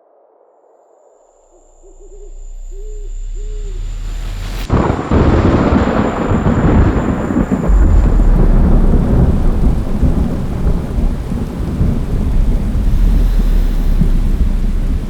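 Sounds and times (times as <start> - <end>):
thunder rumbling: 1.8 - 15.0
rain: 2.2 - 15.0.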